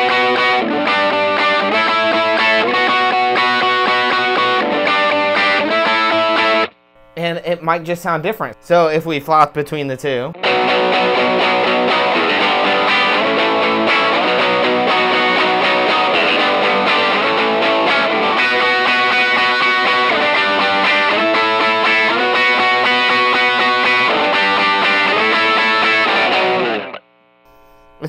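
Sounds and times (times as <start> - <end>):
overdriven electric guitar strumming: 0.0 - 28.0.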